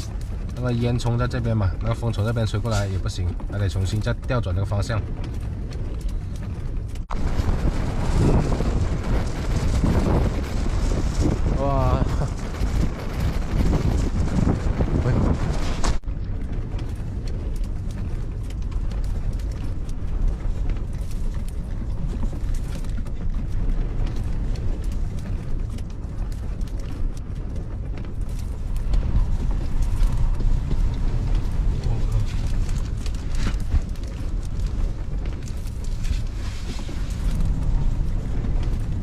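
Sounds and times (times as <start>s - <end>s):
clatter and creaks of objects: 0.0s - 39.0s
gusty wind buffeting microphone: 0.0s - 39.0s.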